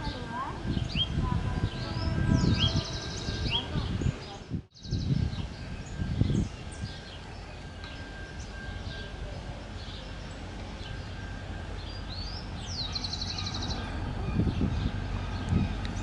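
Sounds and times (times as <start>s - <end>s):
birds chirping: 0.0s - 16.0s
diesel locomotive rumble: 0.0s - 16.0s.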